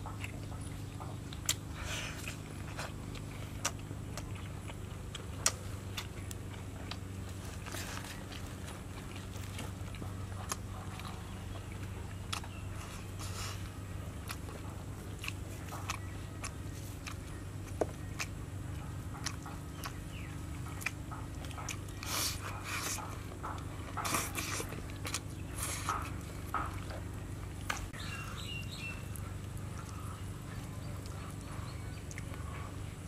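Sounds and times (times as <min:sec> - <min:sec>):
chewing and food handling: 0:00.0 - 0:33.0
low steady hum: 0:00.0 - 0:33.0.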